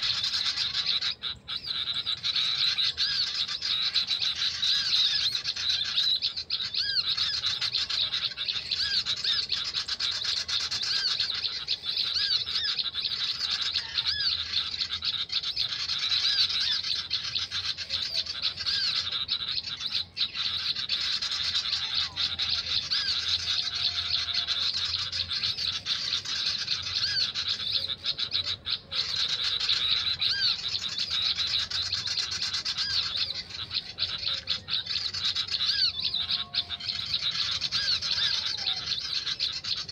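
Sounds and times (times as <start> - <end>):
songbirds chirping through a speaker: 0.0 - 39.9.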